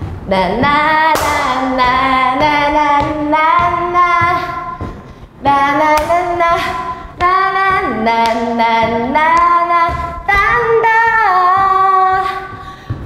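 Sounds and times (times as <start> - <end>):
woman singing pop melody: 0.2 - 13.0.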